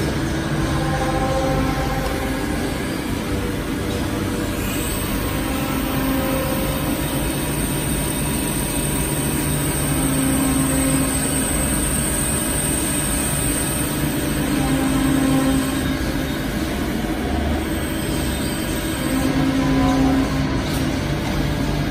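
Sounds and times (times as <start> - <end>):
hydraulic pump humming: 0.0 - 21.9.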